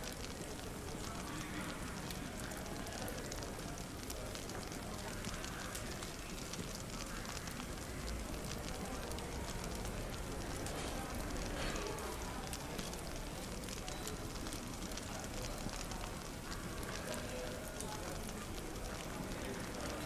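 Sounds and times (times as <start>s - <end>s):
faint murmur of chatter: 0.0s - 20.0s
fireplace crackling and popping: 0.0s - 20.0s.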